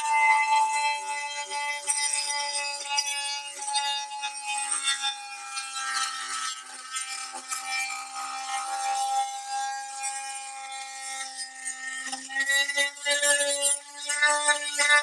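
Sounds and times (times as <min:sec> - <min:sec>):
blade rasping in wood: 0:00.0 - 0:15.0
oscillating multi-tool buzzing: 0:00.0 - 0:15.0.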